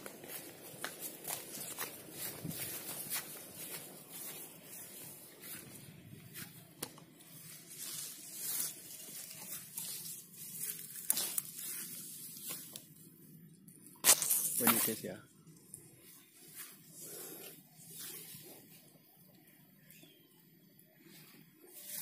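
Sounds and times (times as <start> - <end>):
footsteps through dry grass: 0.0 - 13.0, 14.0 - 15.2, 16.0 - 18.9, 21.1 - 22.0
stalks rustling and brushing: 0.0 - 13.0, 14.0 - 18.9, 21.1 - 22.0.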